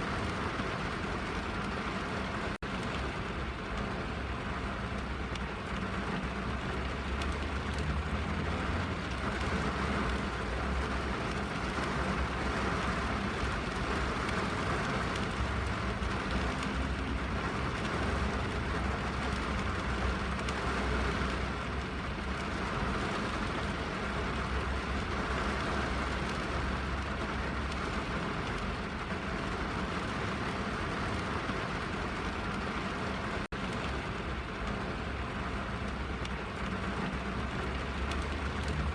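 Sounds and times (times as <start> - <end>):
rain on car roof and windows: 0.0 - 38.9.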